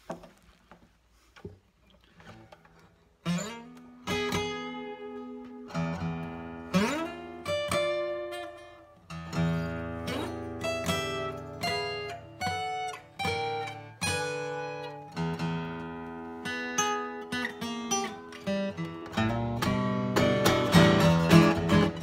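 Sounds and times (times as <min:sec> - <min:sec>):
acoustic guitar picked: 0:01.9 - 0:22.0.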